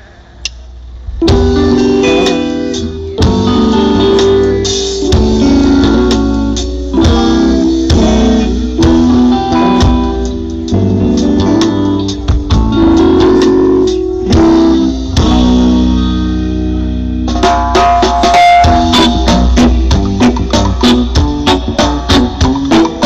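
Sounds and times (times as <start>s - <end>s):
reggae band playing live: 0.1s - 23.0s.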